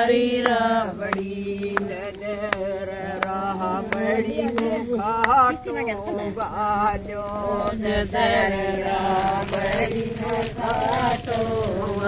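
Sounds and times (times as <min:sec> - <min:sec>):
women singing unaccompanied: 0:00.0 - 0:12.0.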